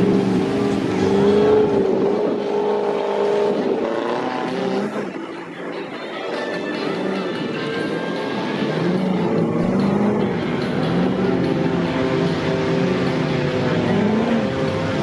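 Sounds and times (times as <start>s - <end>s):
truck engine revving hard: 0.0s - 5.5s, 6.3s - 15.0s.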